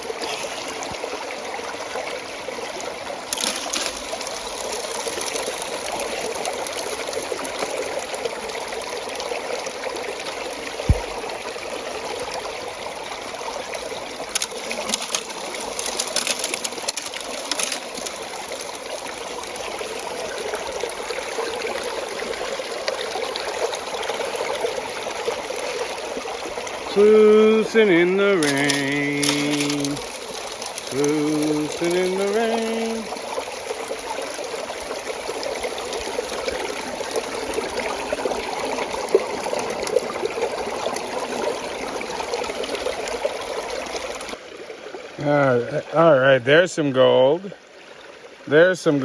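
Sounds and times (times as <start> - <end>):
stream water running through sluice box: 0.0 - 49.0.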